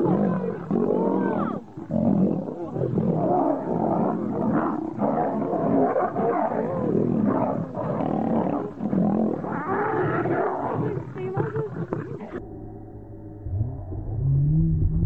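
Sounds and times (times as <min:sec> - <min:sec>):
lions roaring: 0:00.0 - 0:12.4.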